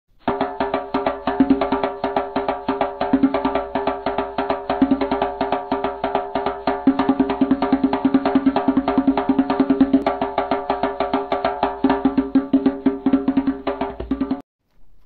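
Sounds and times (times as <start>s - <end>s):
clicking wood-block beat: 0.3s - 14.4s.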